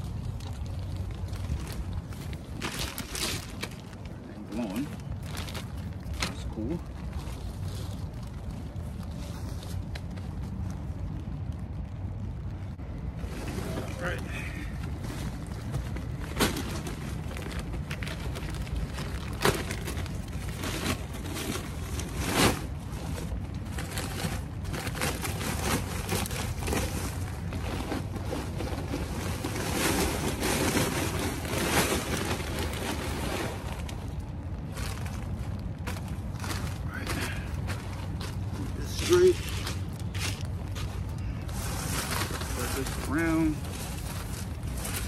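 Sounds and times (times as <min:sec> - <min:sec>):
gravel rattling and crunching: 0:00.0 - 0:45.0
plastic sheeting rustling: 0:00.0 - 0:45.0.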